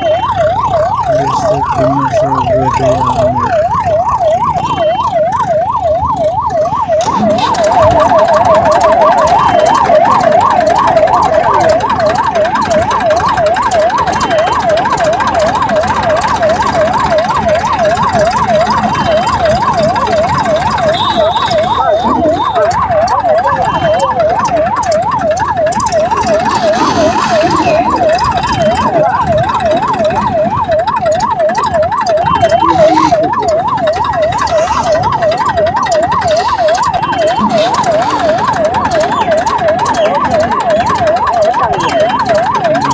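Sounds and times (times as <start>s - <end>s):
electronic siren yelping: 0.0s - 42.9s
steady noisy background: 0.0s - 42.9s.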